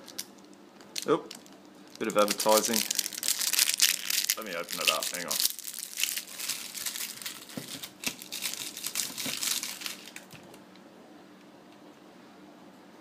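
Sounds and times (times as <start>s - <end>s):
packaging crinkling: 0.0s - 10.6s
faint steady hum: 0.0s - 13.0s.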